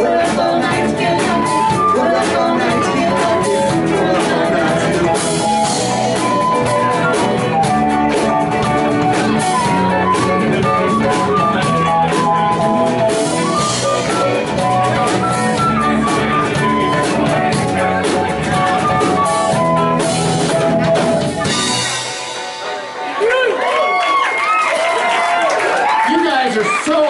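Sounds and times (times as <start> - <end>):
bass guitar: 0.0 - 24.2
electric guitar: 0.0 - 24.6
drum kit: 0.0 - 25.1.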